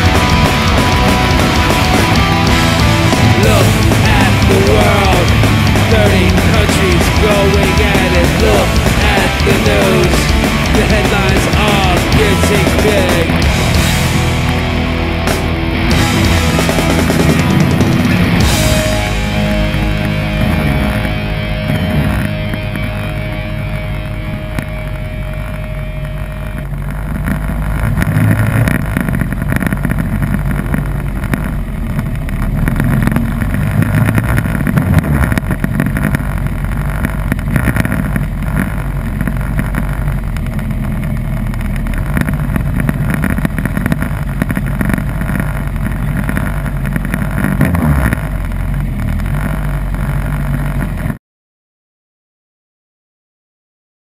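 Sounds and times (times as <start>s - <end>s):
motorcycle engine revving: 0.0s - 51.2s.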